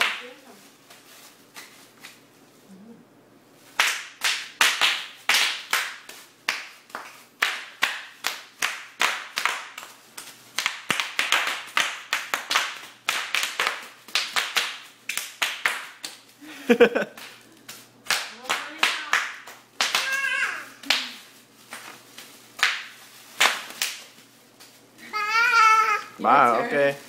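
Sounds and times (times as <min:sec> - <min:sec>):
bubble wrap popping: 0:00.0 - 0:02.3, 0:03.6 - 0:16.4, 0:17.1 - 0:26.0.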